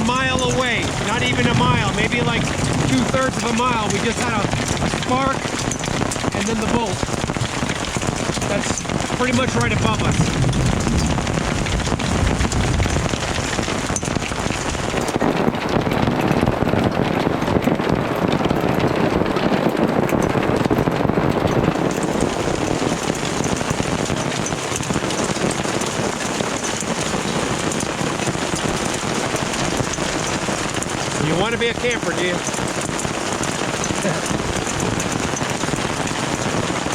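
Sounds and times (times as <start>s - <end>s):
hail and rain pelting: 0.0s - 36.9s.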